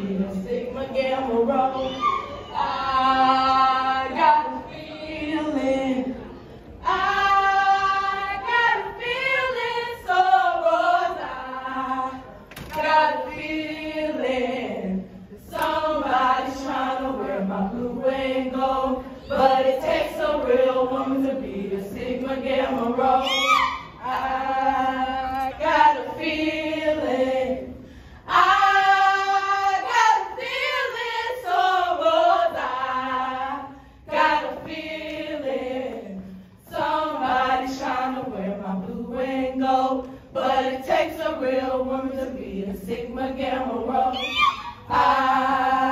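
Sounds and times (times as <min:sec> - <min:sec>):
women singing in unison: 0:00.0 - 0:45.9.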